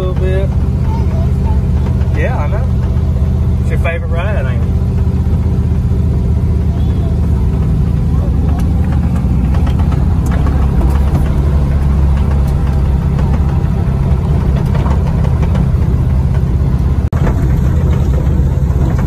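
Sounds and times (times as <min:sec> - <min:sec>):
car engine running from inside: 0:00.0 - 0:19.0.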